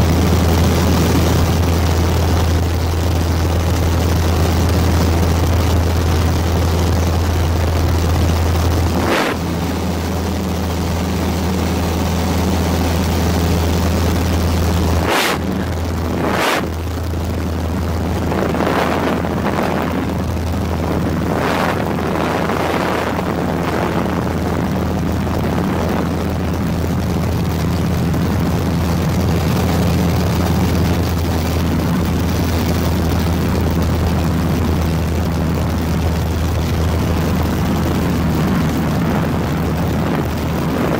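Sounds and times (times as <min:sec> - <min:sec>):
aircraft engine drone in cabin: 0:00.0 - 0:40.9.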